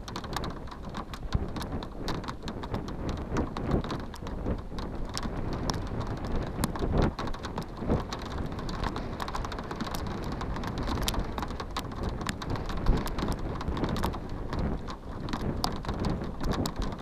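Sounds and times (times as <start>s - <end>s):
raindrops hitting hard surface: 0.0s - 17.0s
steady rain: 0.0s - 17.0s.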